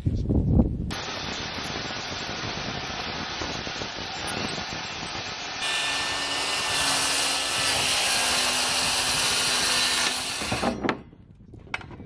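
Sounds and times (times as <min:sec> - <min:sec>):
circular saw cutting plywood: 0:00.9 - 0:10.8.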